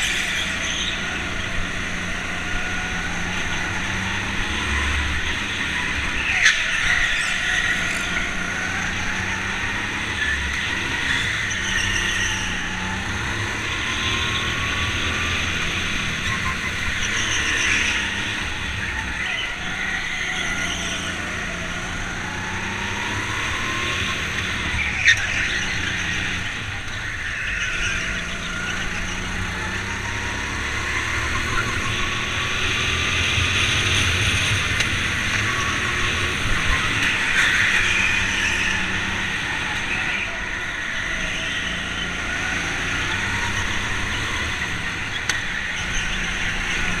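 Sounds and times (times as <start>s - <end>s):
go-kart motor revving: 0.0s - 47.0s.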